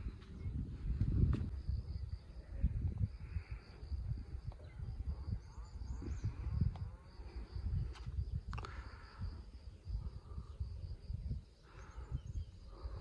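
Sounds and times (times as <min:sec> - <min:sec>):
insects chirring: 0:00.0 - 0:13.0
wind rumble on microphone: 0:00.0 - 0:13.0.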